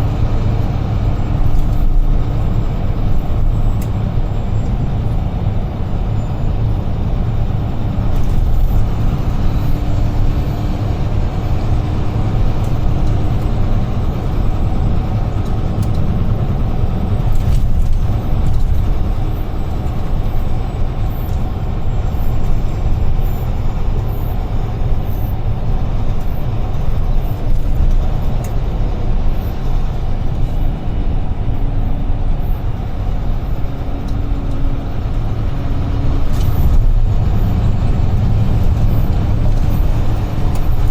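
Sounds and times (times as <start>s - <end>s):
truck diesel engine and tyres rumbling: 0.0s - 40.9s.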